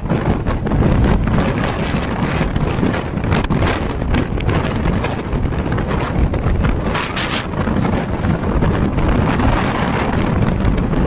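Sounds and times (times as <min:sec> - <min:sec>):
wind roaring over microphone: 0:00.0 - 0:11.0.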